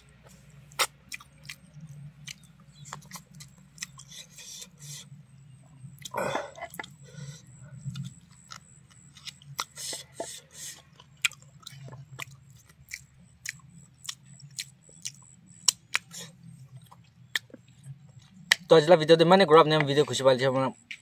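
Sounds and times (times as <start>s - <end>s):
person chewing with mouth open: 0.1s - 5.2s, 6.0s - 18.7s.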